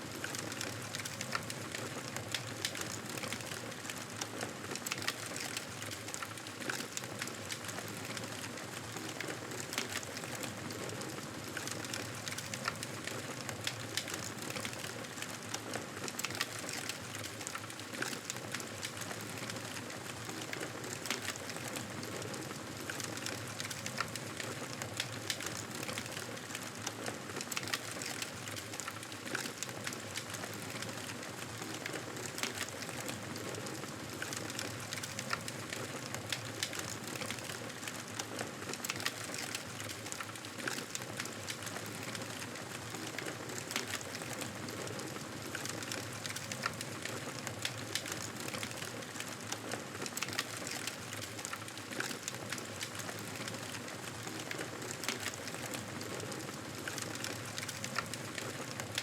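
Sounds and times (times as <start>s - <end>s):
wood fire crackling: 0.1s - 59.0s.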